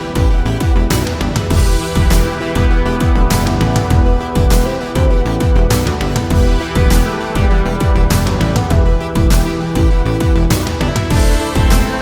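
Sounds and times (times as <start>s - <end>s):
music with deep kick drum: 0.0s - 12.0s.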